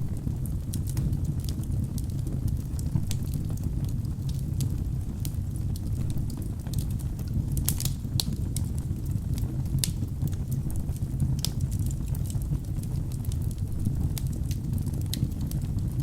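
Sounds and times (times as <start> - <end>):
fire rumbling: 0.0 - 16.0
logs crackling and popping: 0.0 - 16.0.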